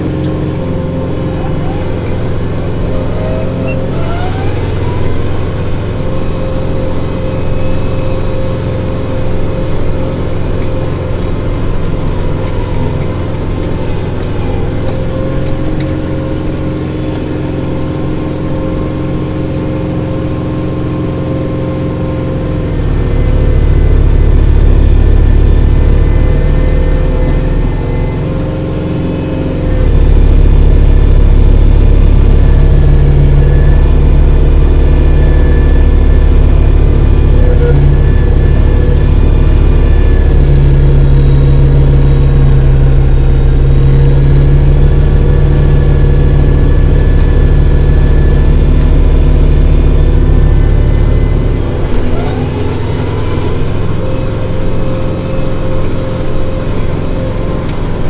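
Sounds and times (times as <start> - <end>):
heavy low rumble: 0.0 - 58.0
tractor engine and snowblower: 0.0 - 58.0.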